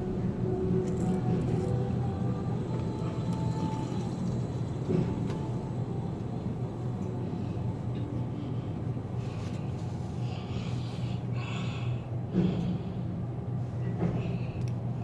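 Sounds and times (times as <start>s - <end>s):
low mechanical hum and rumble: 0.0s - 15.0s.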